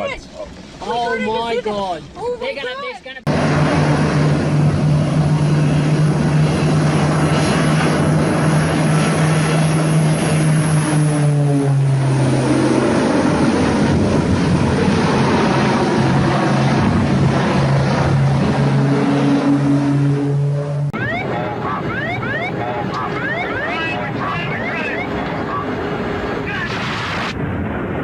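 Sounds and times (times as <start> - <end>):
aircraft engine drone: 3.3 - 28.0.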